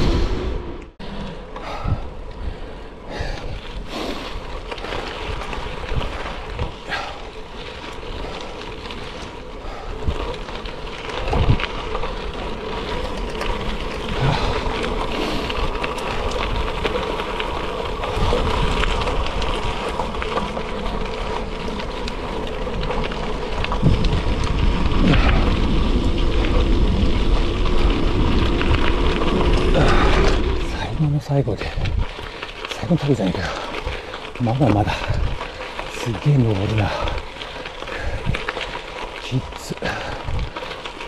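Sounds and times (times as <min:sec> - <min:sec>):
bike tyres crunching on gravel: 0:00.0 - 0:41.0.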